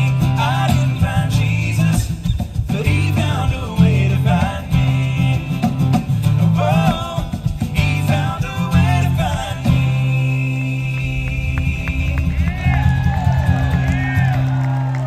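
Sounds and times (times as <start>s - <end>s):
group singing with harmony: 0.0s - 14.7s
strummed acoustic guitars: 0.0s - 15.0s.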